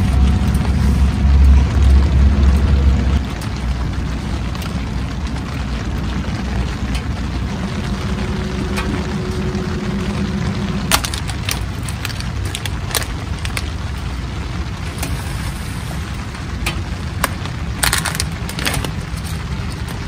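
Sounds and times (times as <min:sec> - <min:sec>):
wood fire crackling in stove: 0:00.0 - 0:20.0.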